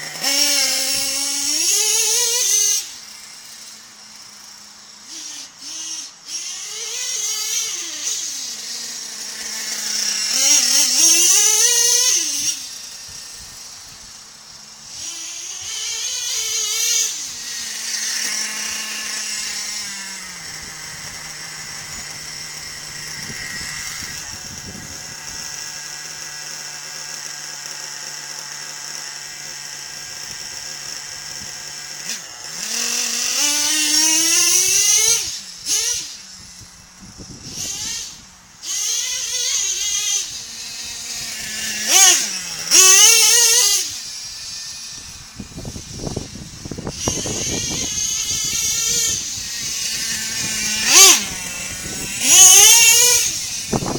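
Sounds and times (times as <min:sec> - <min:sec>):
nitro engine revving: 0:00.0 - 0:03.1, 0:05.0 - 0:14.1, 0:14.8 - 0:53.9
small nitro engine idling: 0:00.0 - 0:53.9.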